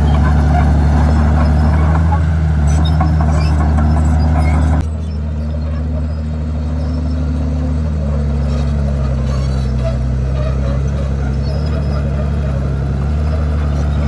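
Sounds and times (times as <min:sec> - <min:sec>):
bulldozer diesel engine: 0:00.0 - 0:14.0.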